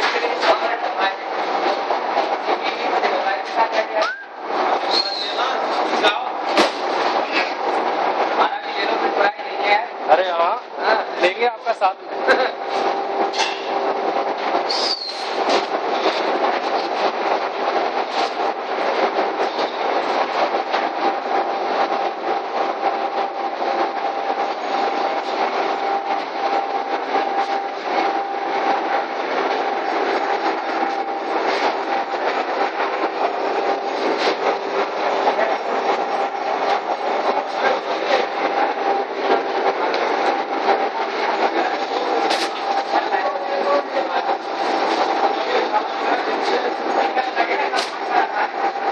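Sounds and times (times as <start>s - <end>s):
conveyor motor whine: 0.0s - 48.9s.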